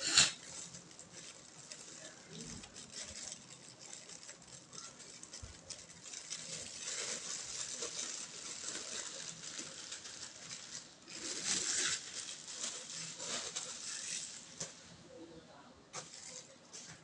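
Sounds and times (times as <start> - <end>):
rustling of packaging: 0.0 - 15.1, 15.9 - 17.0.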